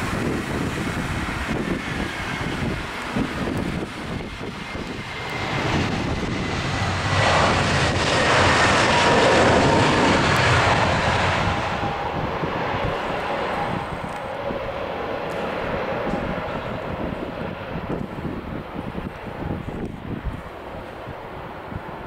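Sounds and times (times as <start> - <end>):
jet engines reverse thrust: 0.0 - 22.0.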